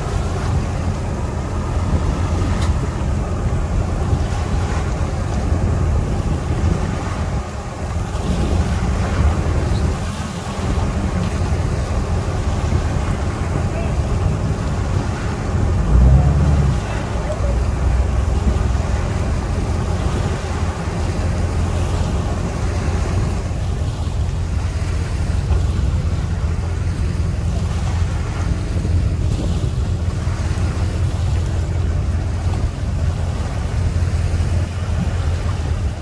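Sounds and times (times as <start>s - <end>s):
truck engine rumble: 0.0s - 36.0s
wind buffeting microphone: 0.0s - 36.0s.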